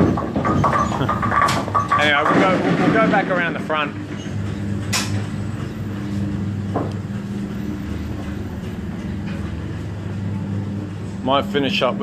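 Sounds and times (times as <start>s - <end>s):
bowling lane machinery hum: 0.0s - 12.0s.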